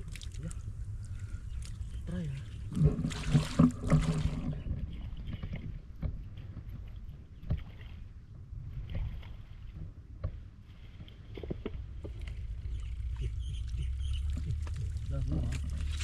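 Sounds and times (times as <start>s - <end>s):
steady low rumble: 0.0s - 16.0s
water sloshing and splashing: 0.0s - 16.0s.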